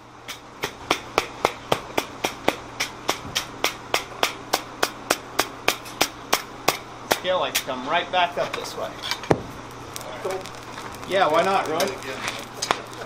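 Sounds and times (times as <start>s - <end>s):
hammer striking hot steel: 0.2s - 7.8s, 8.4s - 13.0s.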